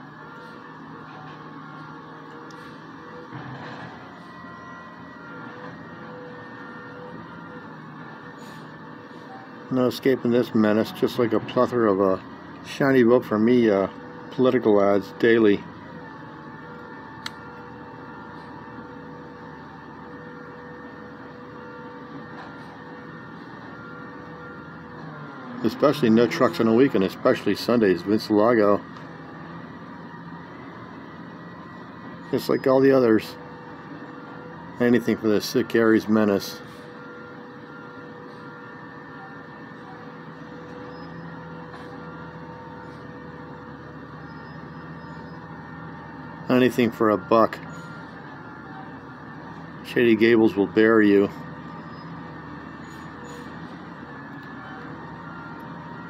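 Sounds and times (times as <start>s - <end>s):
constant whine: 0.0s - 56.0s
steady mechanical hum: 0.0s - 56.0s.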